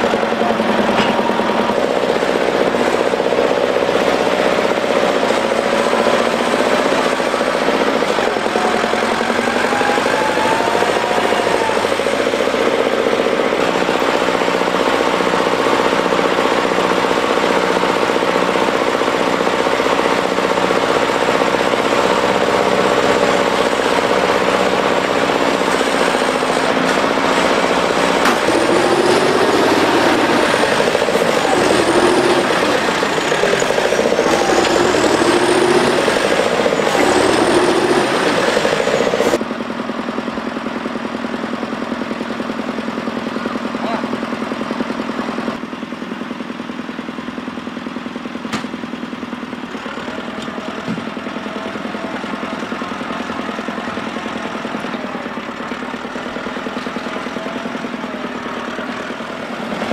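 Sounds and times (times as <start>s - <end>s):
diesel tractor engines clattering: 0.0s - 59.9s.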